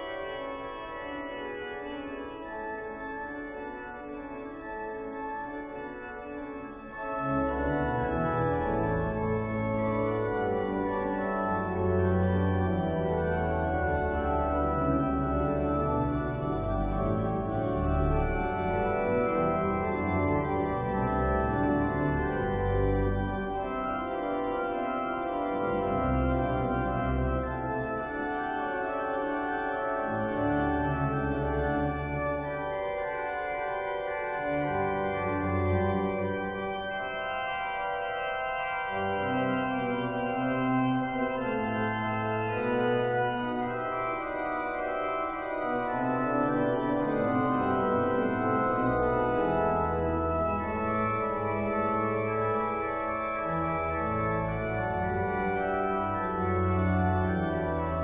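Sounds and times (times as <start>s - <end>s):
low organ pedal bass notes: 0.0s - 58.0s
pipe organ chords: 0.0s - 58.0s.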